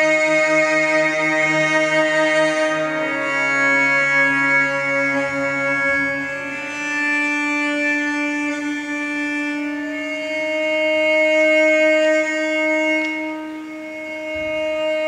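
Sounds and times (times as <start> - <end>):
slow music with long held notes: 0.0 - 15.0.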